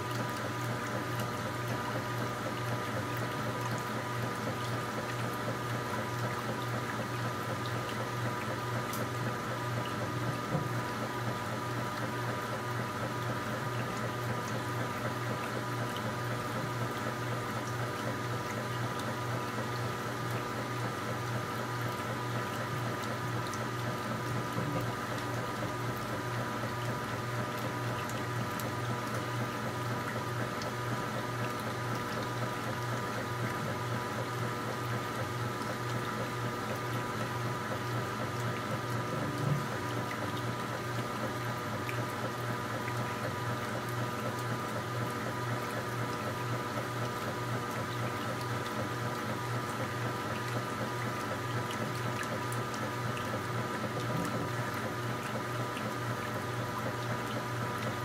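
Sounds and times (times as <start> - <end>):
electrical hum: 0.0 - 58.0
washing machine churning water: 0.0 - 58.0.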